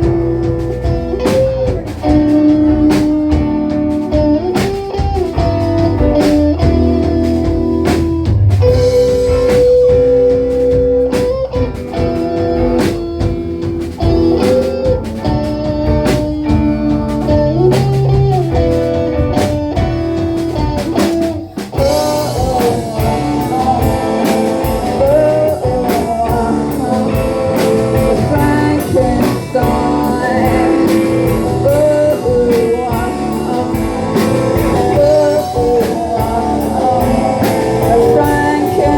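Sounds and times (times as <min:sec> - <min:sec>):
lead guitar bending notes: 0:00.0 - 0:38.9
live rock band playing: 0:00.0 - 0:38.9.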